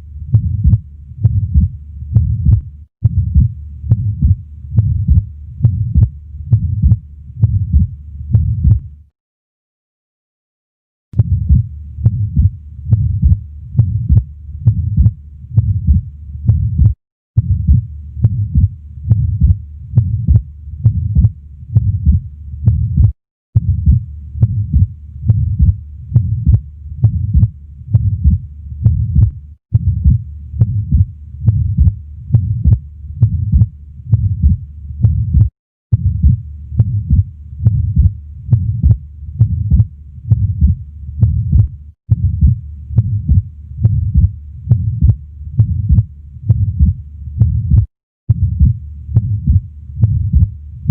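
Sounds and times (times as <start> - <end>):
heart murmur: 0.3 - 8.8, 11.2 - 50.9
heartbeat through stethoscope: 0.3 - 8.9, 11.2 - 50.9.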